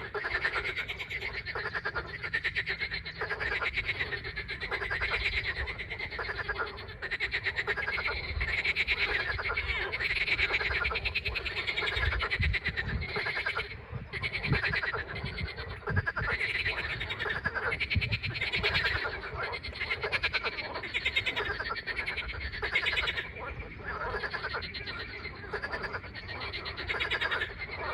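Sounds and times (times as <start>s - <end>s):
chorus of frogs croaking: 0.0s - 27.9s.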